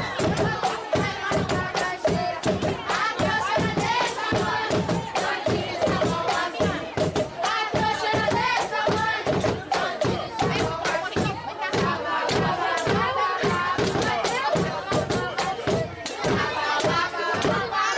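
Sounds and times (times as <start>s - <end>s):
crowd noise: 0.0s - 17.9s
fast percussion beat: 0.0s - 17.9s
group singing: 0.0s - 17.9s.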